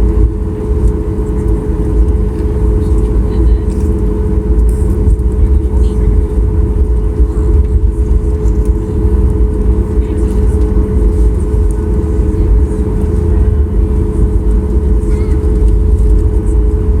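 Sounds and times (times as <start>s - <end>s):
airliner cabin engine rumble: 0.0s - 17.0s
constant hum: 0.0s - 17.0s.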